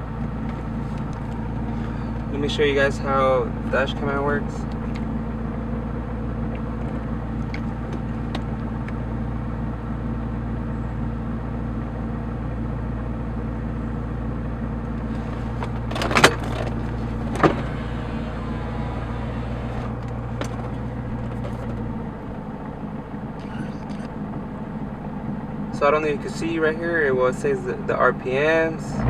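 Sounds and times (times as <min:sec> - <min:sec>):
car engine drone: 0:00.0 - 0:29.0
road noise: 0:00.0 - 0:29.0.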